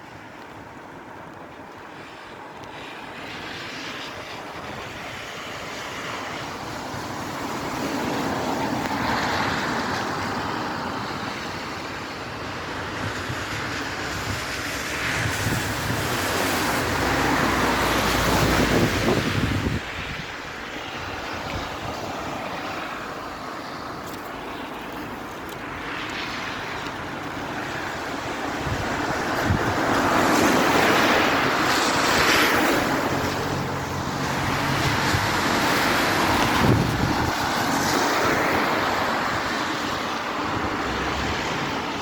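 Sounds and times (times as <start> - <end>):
cars swishing past on wet road: 0.0 - 42.0.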